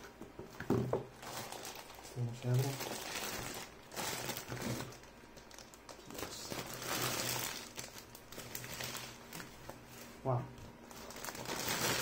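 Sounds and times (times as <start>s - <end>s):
plastic bag crinkling: 1.1s - 9.7s, 10.9s - 12.0s.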